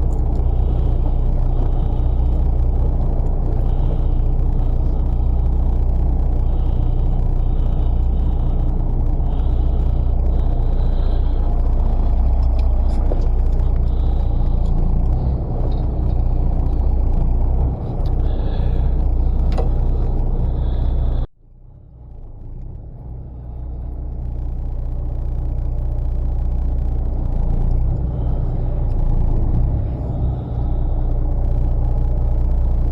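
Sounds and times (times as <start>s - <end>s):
boat engine rumbling: 0.0s - 21.3s, 23.2s - 32.9s.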